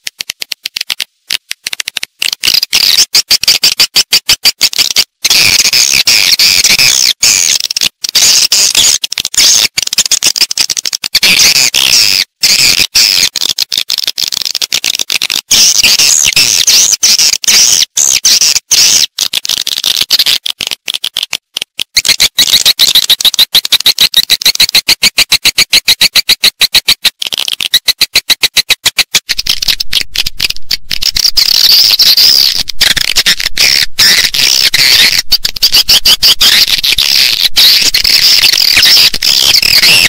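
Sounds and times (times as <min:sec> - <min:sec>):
fast run of clicks: 0:00.0 - 0:40.0.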